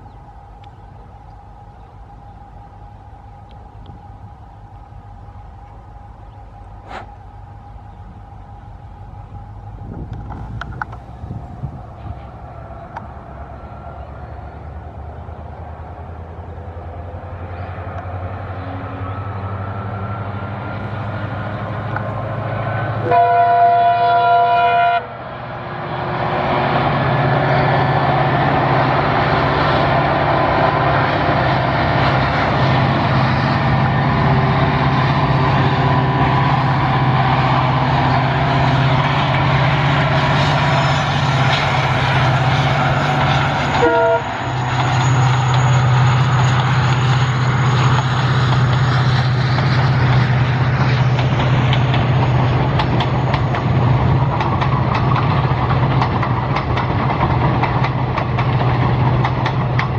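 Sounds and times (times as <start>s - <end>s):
diesel locomotive engine drone: 0.0s - 59.9s
rail and train noise: 0.0s - 59.9s.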